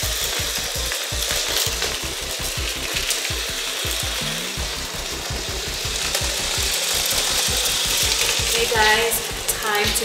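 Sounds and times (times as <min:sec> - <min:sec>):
electric motors whirring: 0:00.0 - 0:10.0
toy train wheels clicking over track: 0:00.0 - 0:10.0.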